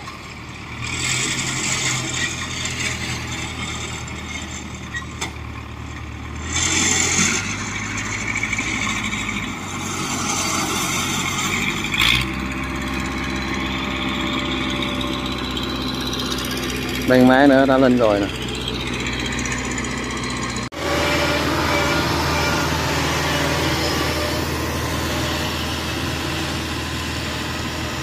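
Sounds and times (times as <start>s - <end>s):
tracked vehicle engine under load: 0.0s - 28.0s.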